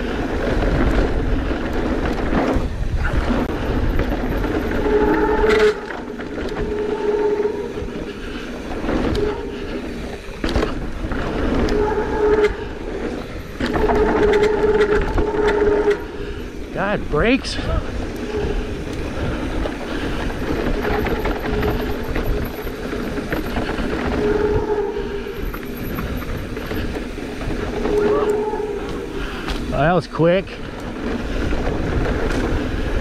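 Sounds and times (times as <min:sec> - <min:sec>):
bike tyre rumble: 0:00.0 - 0:33.0
wind rushing over microphone: 0:00.0 - 0:33.0.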